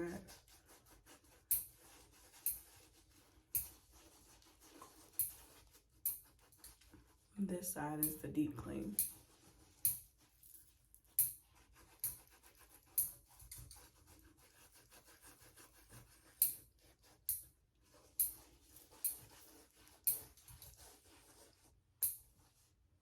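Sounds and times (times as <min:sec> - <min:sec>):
brush scrubbing skin: 0:00.0 - 0:23.0.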